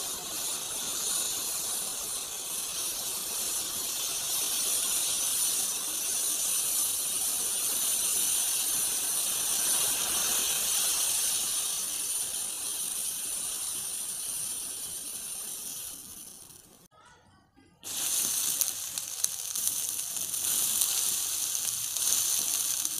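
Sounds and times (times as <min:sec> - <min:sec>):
matches burning with a hiss: 0:00.0 - 0:16.9, 0:17.8 - 0:22.9.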